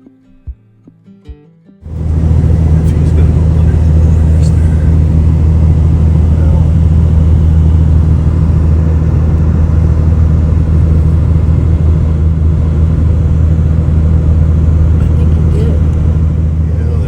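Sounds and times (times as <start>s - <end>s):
vehicle driving drone: 1.8s - 17.0s.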